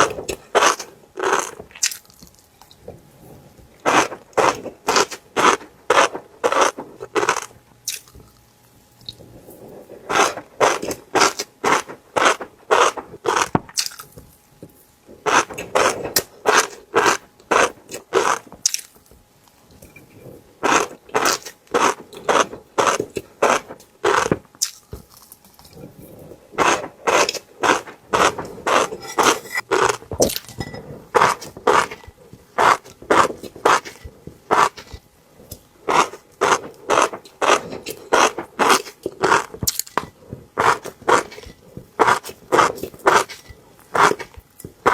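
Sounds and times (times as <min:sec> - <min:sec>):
crisp chewing crunches: 0:00.0 - 0:02.8, 0:03.8 - 0:09.2, 0:10.1 - 0:14.3, 0:15.2 - 0:19.0, 0:20.6 - 0:30.6, 0:31.2 - 0:44.9.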